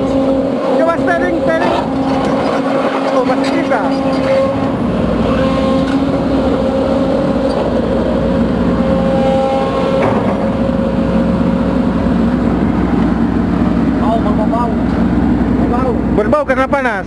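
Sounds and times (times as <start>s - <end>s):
excavator diesel engine running: 0.0s - 17.0s
hydraulic pump whine: 0.0s - 17.0s.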